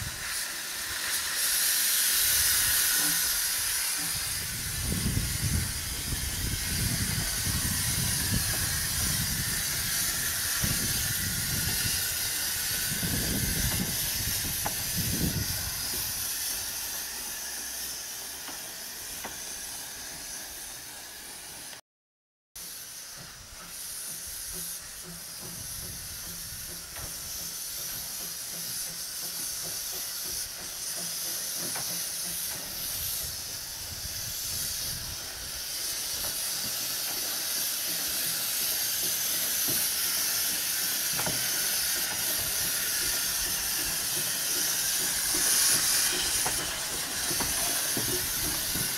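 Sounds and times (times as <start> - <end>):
steam hissing from locomotive: 0.0 - 21.8, 22.6 - 48.9.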